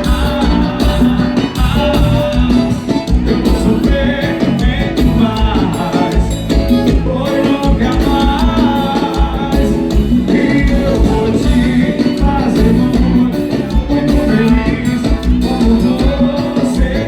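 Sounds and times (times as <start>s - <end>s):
live band music: 0.0s - 17.0s
person singing: 0.0s - 17.0s
steady bass drum beat: 0.0s - 17.0s.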